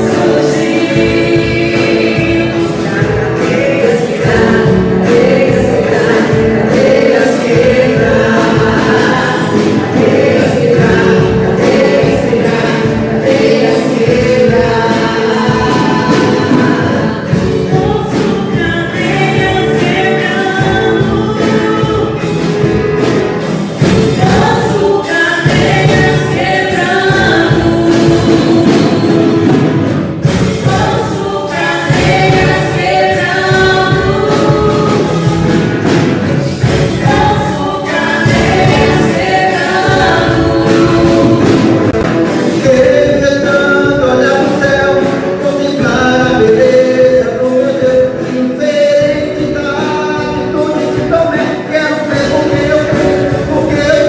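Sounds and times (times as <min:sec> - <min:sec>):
choir singing worship song: 0:00.0 - 0:54.0
music accompaniment: 0:00.0 - 0:54.0.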